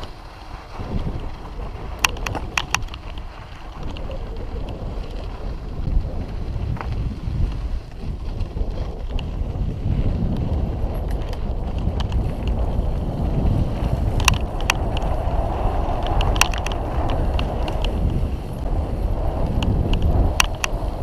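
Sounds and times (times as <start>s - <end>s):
bike rattling clicks: 0.0s - 21.0s
bike tyres rumbling on gravel: 0.0s - 21.0s
wind buffeting microphone: 0.0s - 21.0s.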